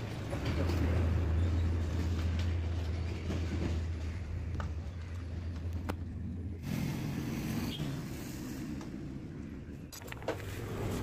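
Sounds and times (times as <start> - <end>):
machinery low rumble: 0.0 - 11.0.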